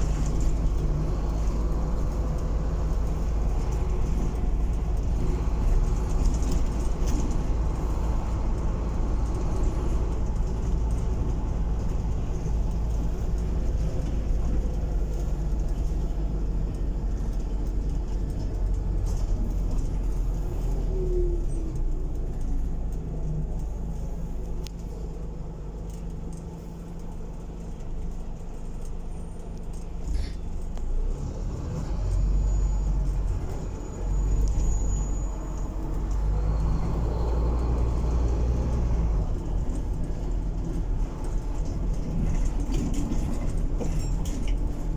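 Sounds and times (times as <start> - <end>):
bus engine rumbling: 0.0 - 44.9
road noise: 0.0 - 44.9.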